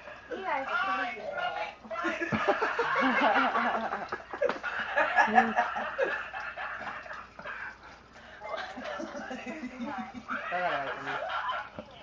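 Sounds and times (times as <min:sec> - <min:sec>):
people laughing: 0:01.9 - 0:12.0.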